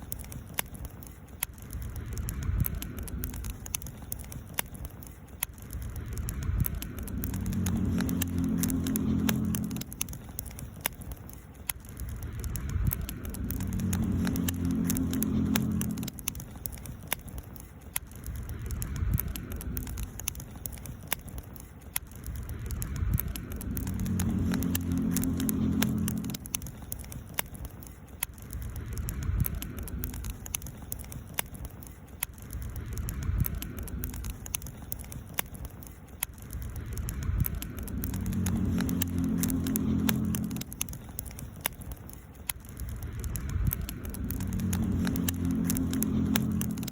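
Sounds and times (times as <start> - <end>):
low hum: 0.0 - 31.8, 32.4 - 46.9
campfire crackling: 0.0 - 46.9.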